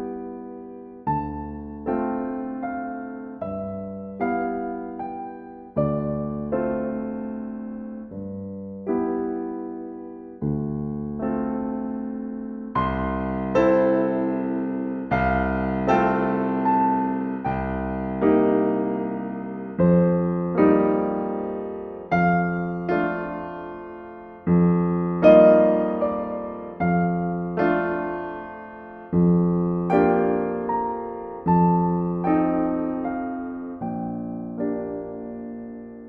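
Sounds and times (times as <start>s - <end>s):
slow piano chords: 0.0s - 36.0s.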